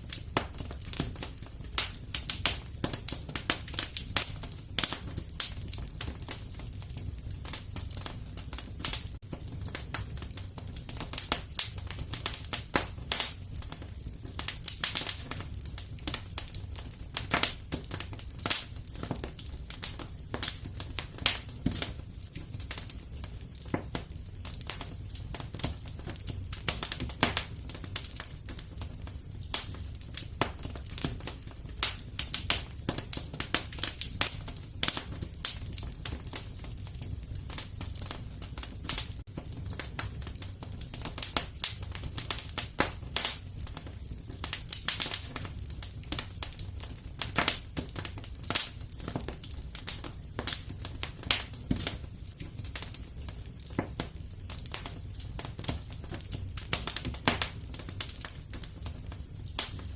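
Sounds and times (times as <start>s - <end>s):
fire low rumble: 0.0s - 59.9s
fireplace fire crackling and popping: 0.0s - 59.9s.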